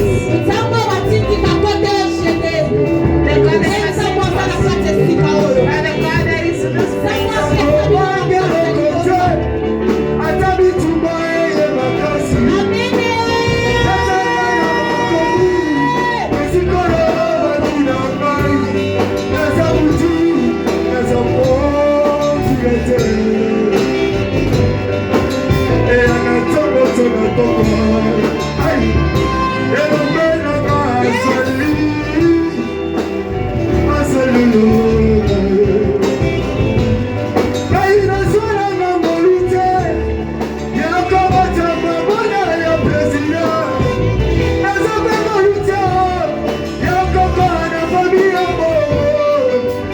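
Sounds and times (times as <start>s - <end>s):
worship singing over a band: 0.0s - 49.9s.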